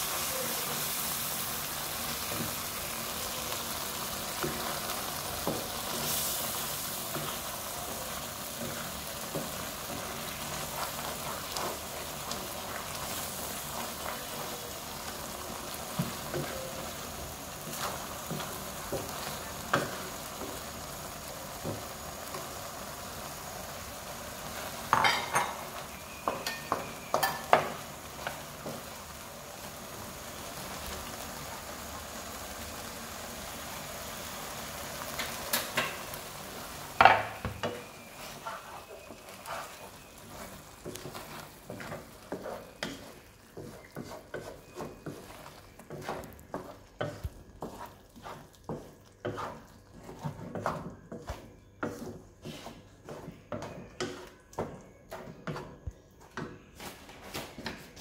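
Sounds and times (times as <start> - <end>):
food sizzling in a wok: 0.0 - 58.0
wooden spatula stirring and scraping: 0.0 - 58.0.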